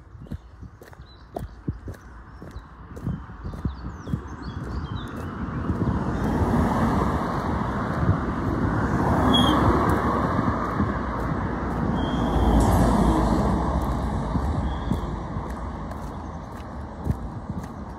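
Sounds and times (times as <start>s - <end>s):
cars passing on road: 0.0s - 17.9s.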